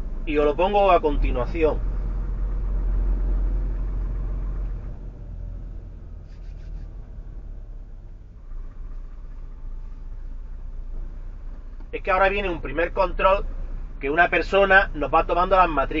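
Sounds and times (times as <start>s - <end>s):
truck diesel engine rumbling: 0.0s - 16.0s.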